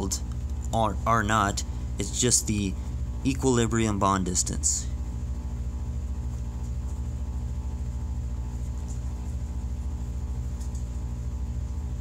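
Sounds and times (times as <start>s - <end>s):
pulsing low hum: 0.0s - 12.0s.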